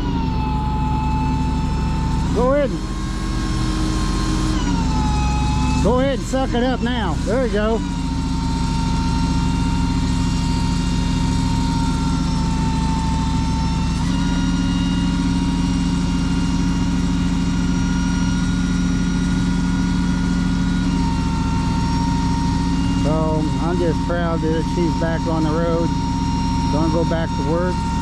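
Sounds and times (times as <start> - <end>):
hydraulic whine: 0.0 - 28.0
truck engine running: 0.0 - 28.0.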